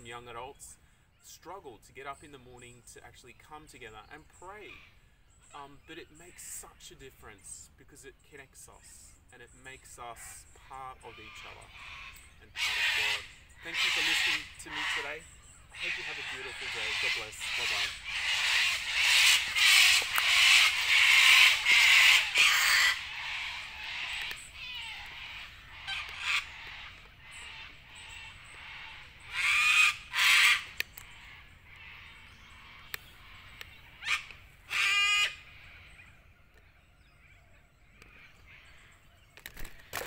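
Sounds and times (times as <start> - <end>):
birds giving harsh calls: 0.0 - 40.0.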